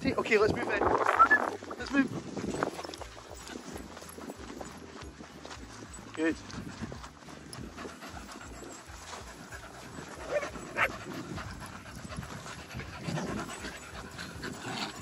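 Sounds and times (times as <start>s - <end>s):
dogs panting: 0.0s - 15.0s.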